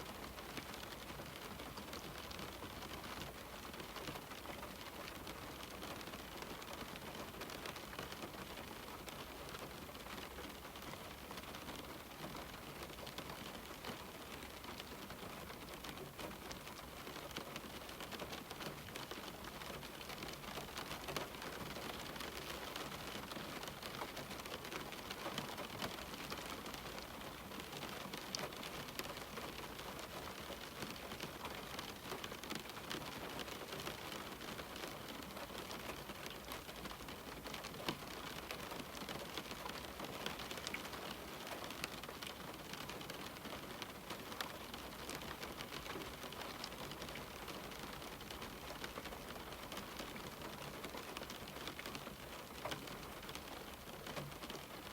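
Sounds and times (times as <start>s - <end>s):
rain pattering on a window: 0.0s - 54.9s.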